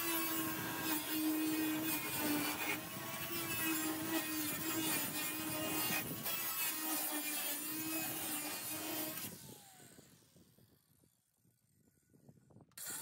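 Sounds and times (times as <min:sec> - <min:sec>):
angle grinder motor whine: 0:00.0 - 0:10.8, 0:12.8 - 0:13.0.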